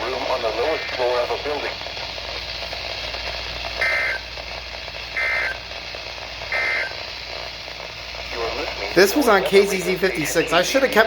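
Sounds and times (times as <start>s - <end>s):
digital data bursts: 0.0s - 11.0s
radio hiss: 0.0s - 11.0s.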